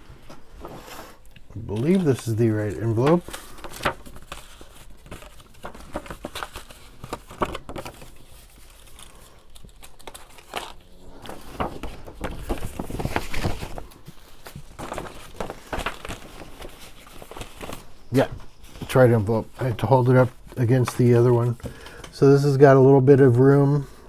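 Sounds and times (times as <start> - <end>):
paper envelope rustling: 0.2 - 23.9.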